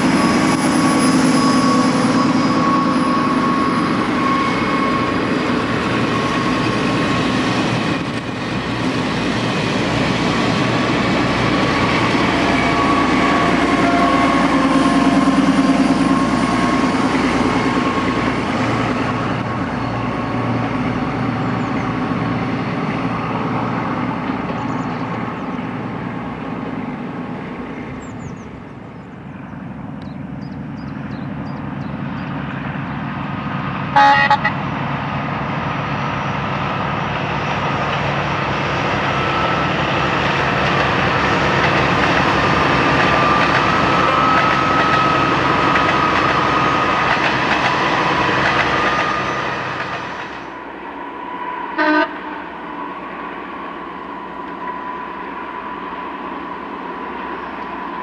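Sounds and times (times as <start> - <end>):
diesel railcar engine running: 0.0 - 58.0
train wheels rolling on track: 0.0 - 58.0.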